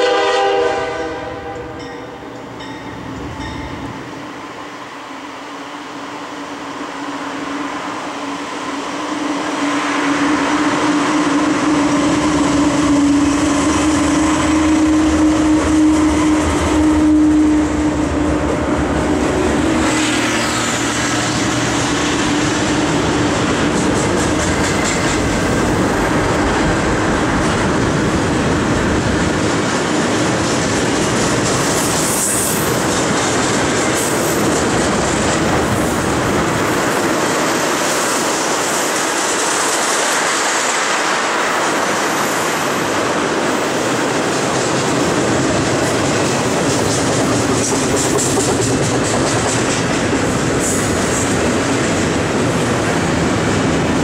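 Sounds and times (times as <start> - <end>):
diesel locomotives passing: 0.0 - 54.0
train cars clickety-clack: 8.3 - 54.0.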